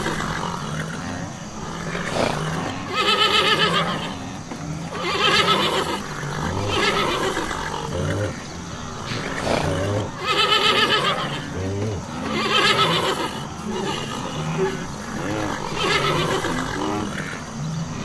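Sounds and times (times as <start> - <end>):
horses whinnying: 0.0 - 18.0.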